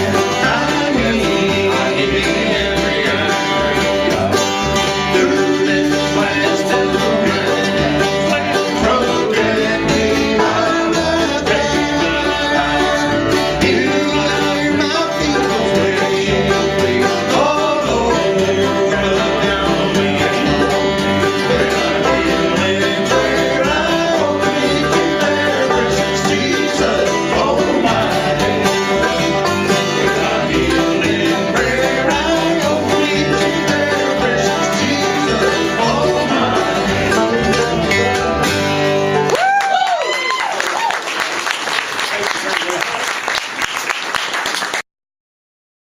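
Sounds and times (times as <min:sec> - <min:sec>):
bluegrass band playing: 0:00.0 - 0:44.8.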